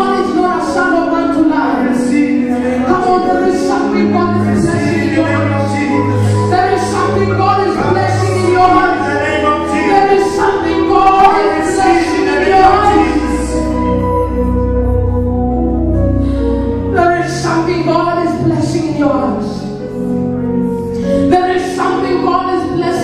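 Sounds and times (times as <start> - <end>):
low backing music: 0.0 - 23.0.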